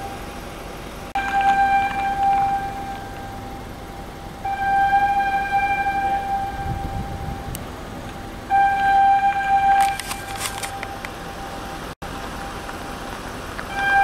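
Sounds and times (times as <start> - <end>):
warning siren blasts: 1.1 - 13.0, 13.7 - 14.0.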